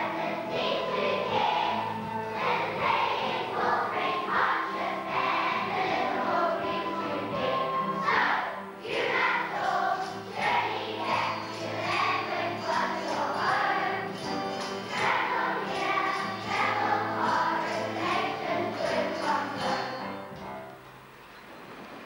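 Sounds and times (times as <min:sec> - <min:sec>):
children's choir singing: 0:00.0 - 0:20.8
instrumental accompaniment: 0:00.0 - 0:22.0.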